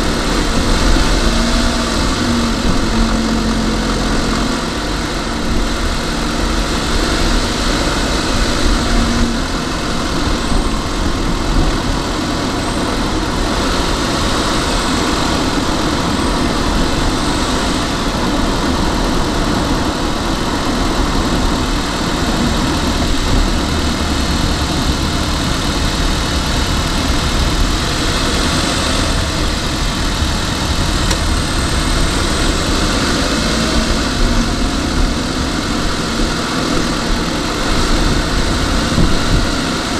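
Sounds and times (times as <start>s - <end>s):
car engine noise: 0.0s - 39.9s
road noise: 0.0s - 39.9s.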